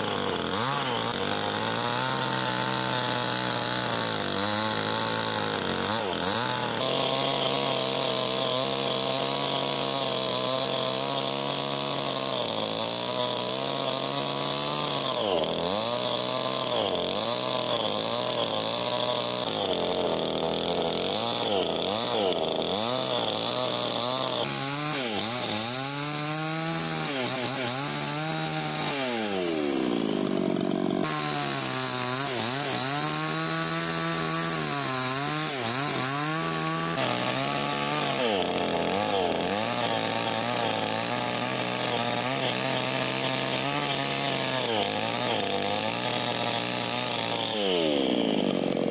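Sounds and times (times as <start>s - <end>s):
small engine running: 0.0s - 48.9s.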